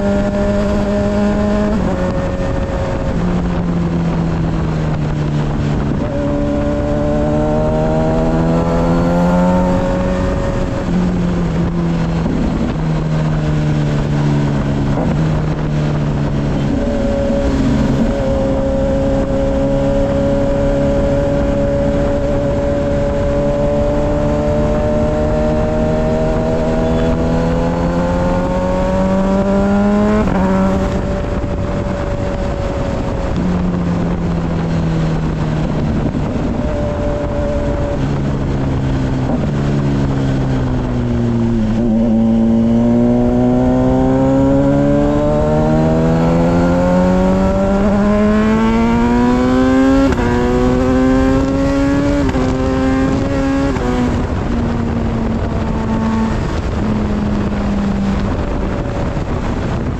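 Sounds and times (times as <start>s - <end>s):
motorcycle engine accelerating: 0.0s - 59.9s
wind rush: 0.0s - 59.9s.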